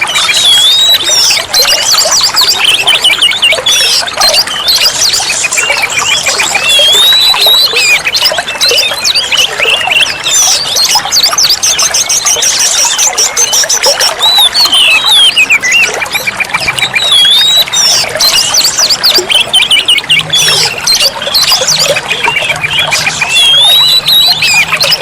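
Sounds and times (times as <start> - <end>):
bird singing whistles and trills: 0.0 - 25.0.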